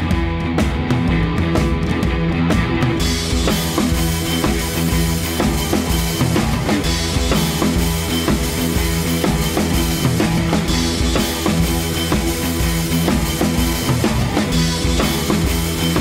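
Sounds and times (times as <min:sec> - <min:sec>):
drum kit beat: 0:00.0 - 0:16.0
rock music: 0:00.0 - 0:16.0.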